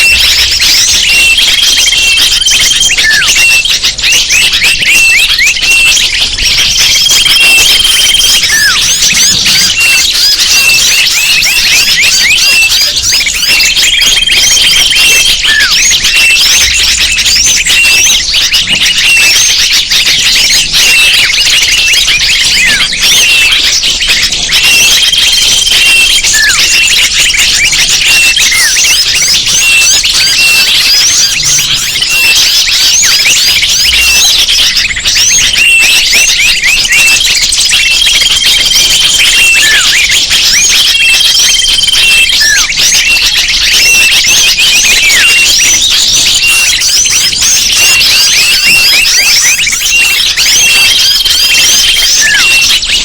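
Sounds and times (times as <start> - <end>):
songbirds chirping and twittering: 0.0 - 53.0.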